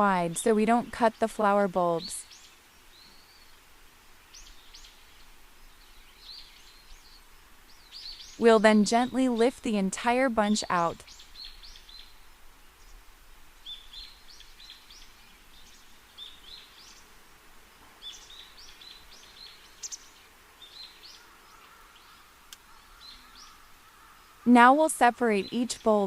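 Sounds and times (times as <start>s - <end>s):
birds chirping: 0.0s - 26.0s
soft background hiss: 0.0s - 26.0s.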